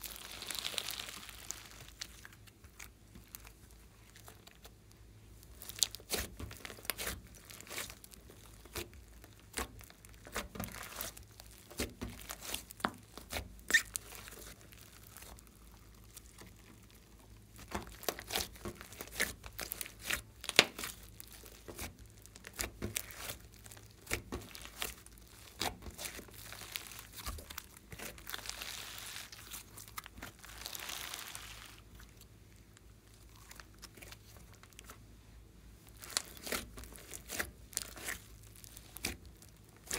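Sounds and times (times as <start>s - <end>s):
slime crackling and popping: 0.0s - 35.0s, 35.8s - 39.9s
soft rustling of slime: 0.0s - 39.9s.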